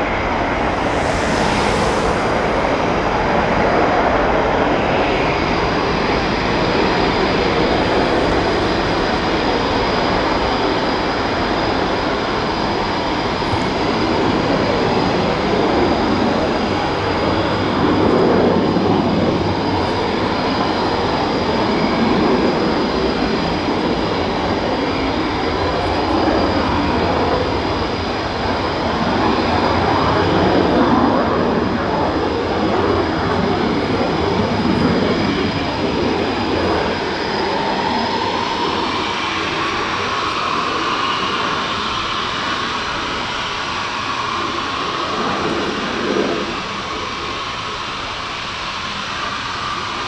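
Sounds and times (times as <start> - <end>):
jet engines roaring: 0.0 - 50.0.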